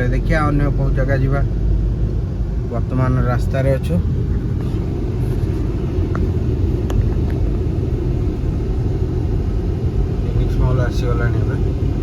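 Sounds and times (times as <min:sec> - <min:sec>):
vehicle rumbling on road: 0:00.0 - 0:12.0.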